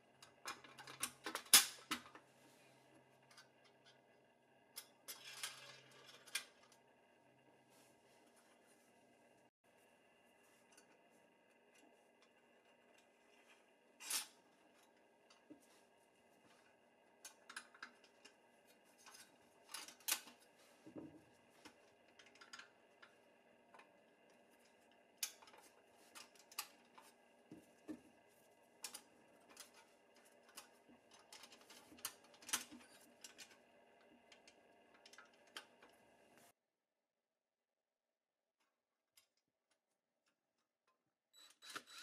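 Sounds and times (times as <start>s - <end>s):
faint steady hum: 0.0s - 36.6s.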